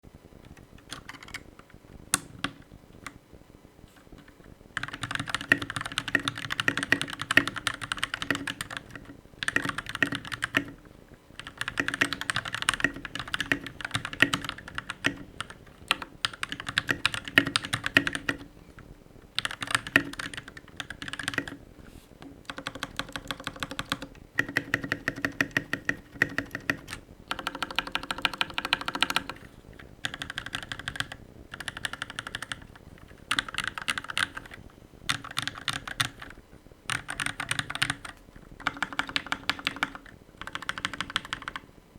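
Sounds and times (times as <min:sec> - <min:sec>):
mechanical keyboard typing: 0:00.5 - 0:03.2, 0:04.2 - 0:10.8, 0:11.4 - 0:18.5, 0:19.4 - 0:21.6, 0:22.4 - 0:41.7.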